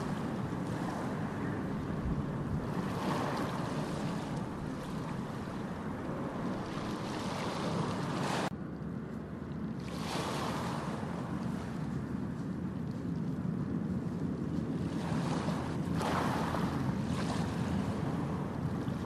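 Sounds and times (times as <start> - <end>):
ocean waves breaking on beach: 0.0 - 8.5, 9.6 - 19.0.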